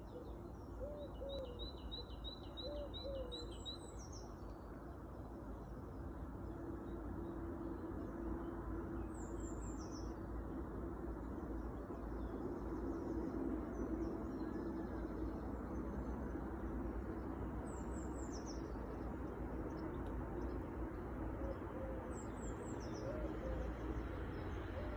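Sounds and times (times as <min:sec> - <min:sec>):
low outdoor rumble: 0:03.9 - 0:24.9.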